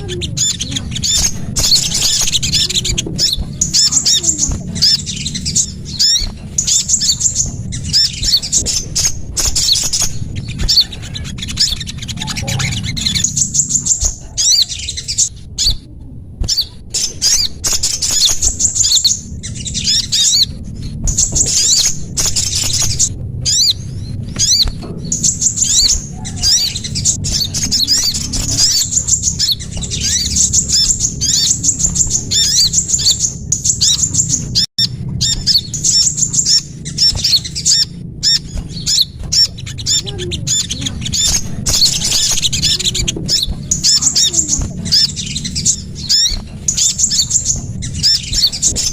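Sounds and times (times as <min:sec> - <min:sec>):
low rumble: 0:00.0 - 0:48.9
songbirds chirping: 0:00.0 - 0:48.9.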